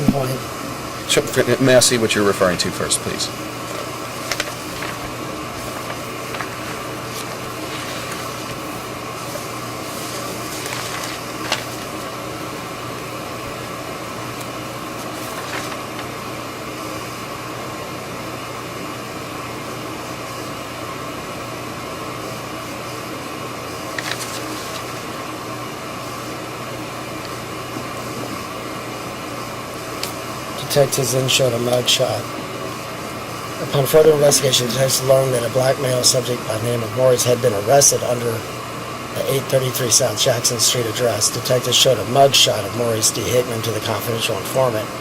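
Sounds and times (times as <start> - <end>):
room hiss: 0.0 - 45.0.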